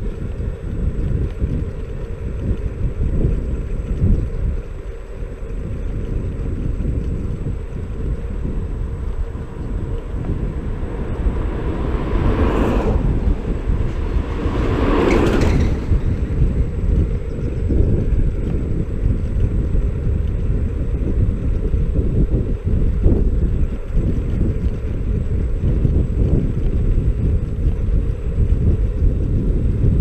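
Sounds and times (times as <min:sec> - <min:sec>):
tyres rolling on asphalt: 0:00.0 - 0:30.0
wind buffeting microphone: 0:00.0 - 0:30.0.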